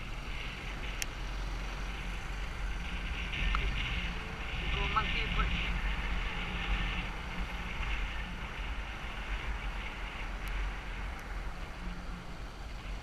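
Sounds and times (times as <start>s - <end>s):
motorbike engine drone: 0.0s - 13.0s
wind rushing over microphone: 0.0s - 13.0s.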